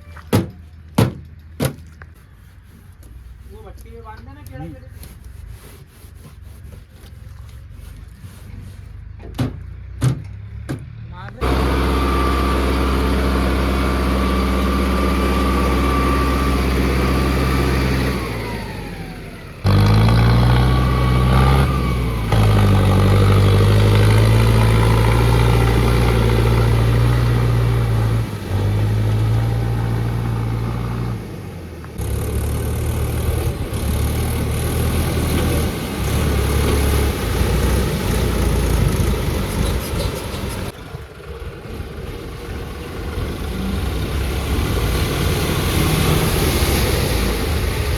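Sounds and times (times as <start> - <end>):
tractor diesel engines revving: 9.0 - 47.9.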